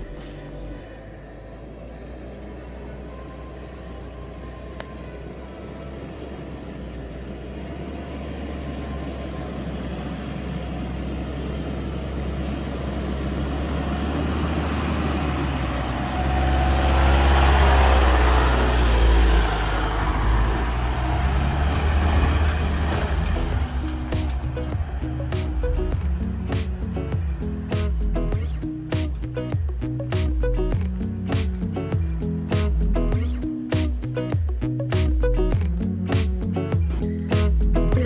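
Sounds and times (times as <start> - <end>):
tyres on dirt track: 0.0 - 38.0
vehicle engine passing: 0.0 - 38.0.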